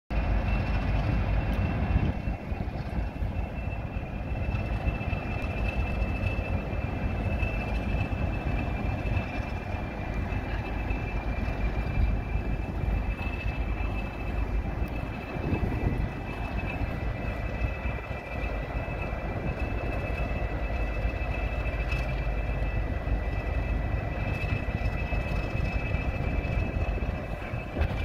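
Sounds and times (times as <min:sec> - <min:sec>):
locomotive diesel engine rumble: 0:00.1 - 0:28.0.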